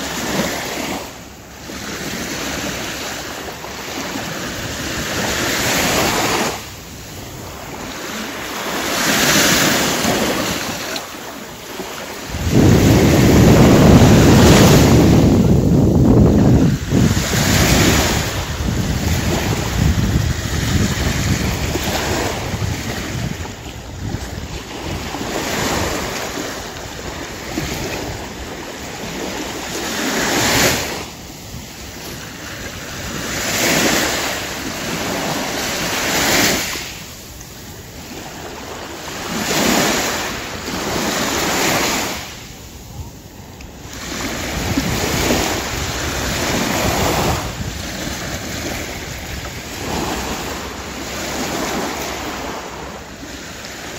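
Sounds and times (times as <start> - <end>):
small waves washing onto sand: 0.0 - 53.9.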